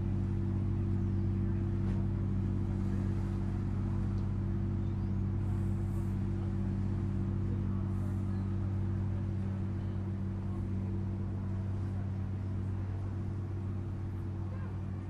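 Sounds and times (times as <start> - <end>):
ship engine humming: 0.0 - 15.0.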